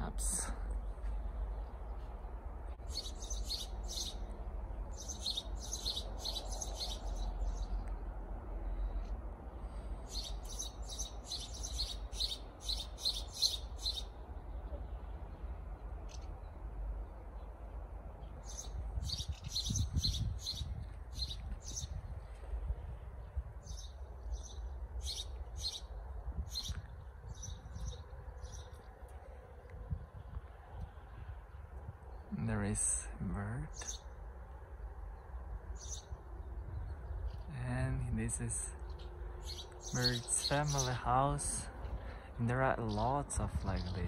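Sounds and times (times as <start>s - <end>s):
steady low rumble: 0.0s - 12.7s, 13.6s - 44.0s
small birds chirping: 0.0s - 22.4s, 23.2s - 44.0s.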